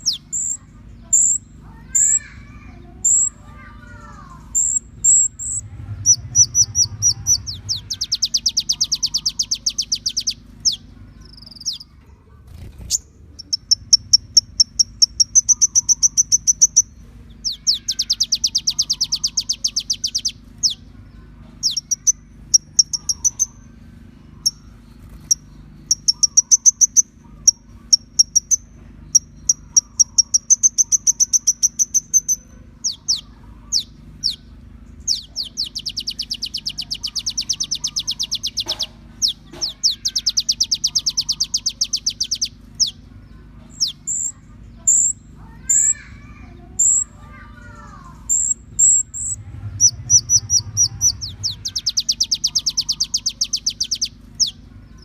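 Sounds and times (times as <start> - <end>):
sharp bird chirps: 0.0 - 2.4, 3.0 - 11.9, 12.6 - 20.9, 21.6 - 23.8, 24.4 - 55.0
bird rapid chirping trills: 0.0 - 55.0
faint low hum: 0.0 - 55.0.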